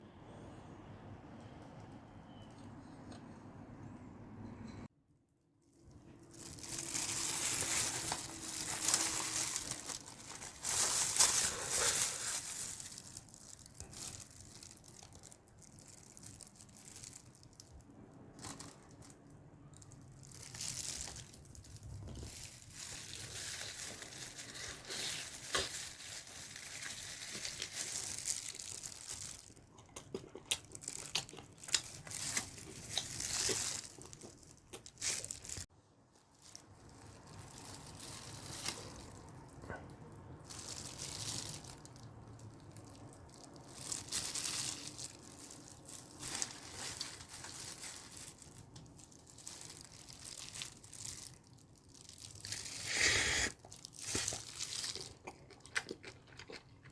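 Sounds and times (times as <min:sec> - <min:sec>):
wrapping crinkling and tearing: 0:05.9 - 0:56.8.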